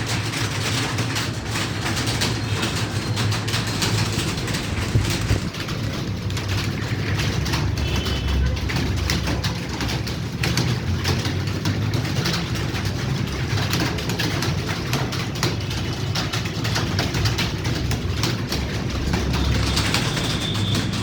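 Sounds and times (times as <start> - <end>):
keyboards clattering: 0.0 - 21.0.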